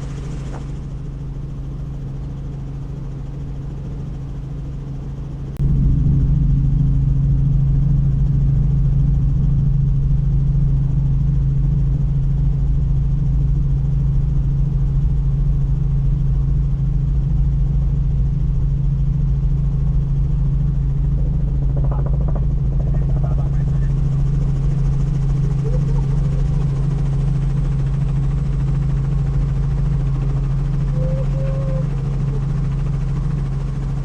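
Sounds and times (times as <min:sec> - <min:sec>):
helicopter rotor drone: 0:00.0 - 0:34.0.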